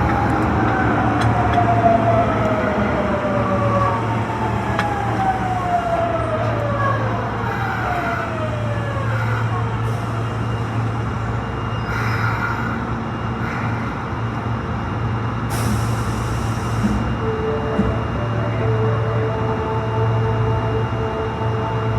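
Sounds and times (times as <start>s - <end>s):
low train running hum: 0.0s - 21.9s
train traction motor whine: 0.0s - 21.9s.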